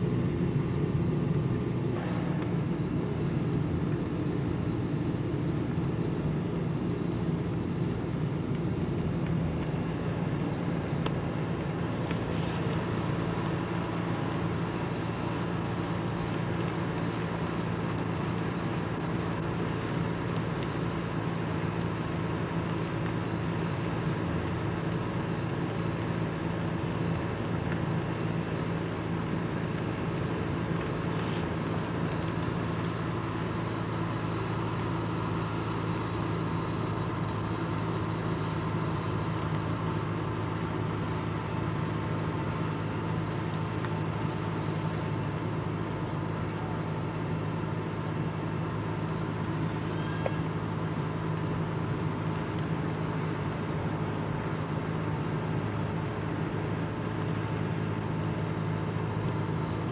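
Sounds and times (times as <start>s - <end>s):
car engine and road noise hum: 0.0s - 59.9s.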